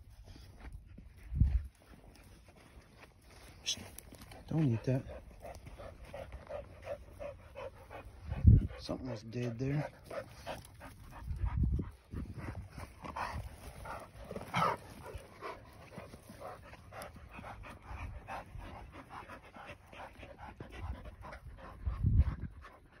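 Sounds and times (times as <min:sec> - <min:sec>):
dogs panting: 0:00.0 - 0:23.0.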